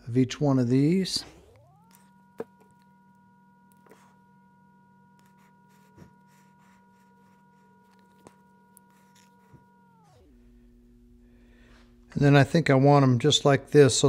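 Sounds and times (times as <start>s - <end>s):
faint steady hum of tones: 0.0s - 14.0s.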